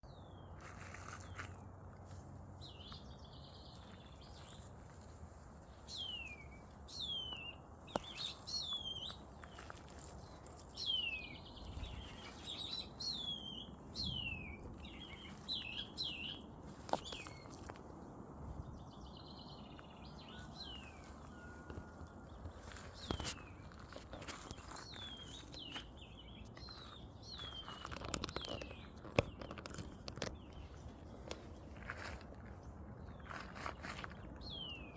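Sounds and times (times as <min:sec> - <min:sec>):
birds calling: 0:02.6 - 0:34.9.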